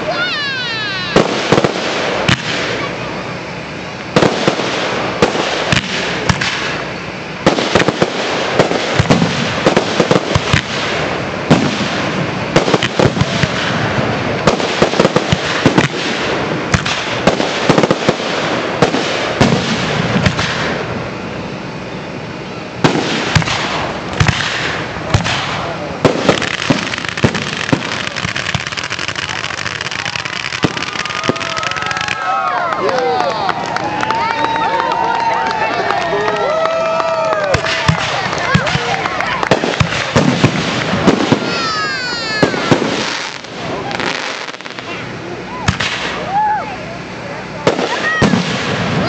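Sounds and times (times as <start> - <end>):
fireworks hiss: 0.0 - 21.2, 22.8 - 32.2, 37.6 - 46.3
firework bangs and crackling: 0.0 - 49.0.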